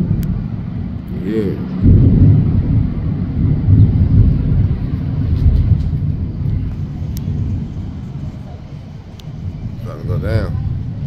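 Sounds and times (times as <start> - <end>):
thunder rolling: 0.0 - 11.0.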